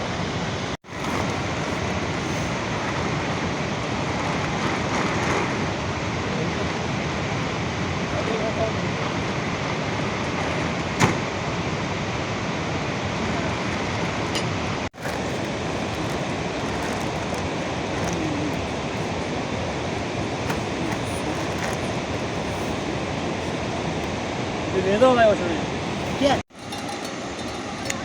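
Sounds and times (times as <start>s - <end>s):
heavy rain: 0.0s - 26.4s.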